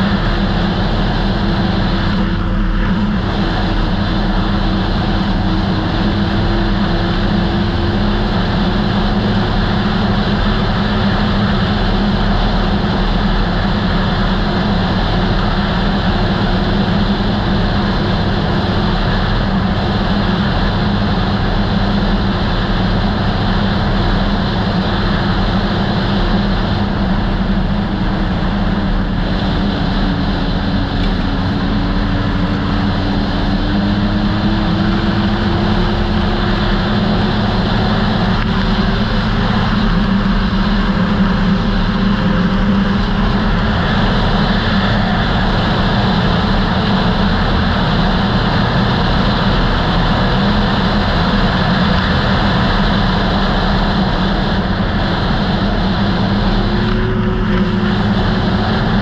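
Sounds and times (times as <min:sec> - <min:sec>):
snowmobile engine running: 0:00.0 - 0:59.0
wind and track rush: 0:00.0 - 0:59.0.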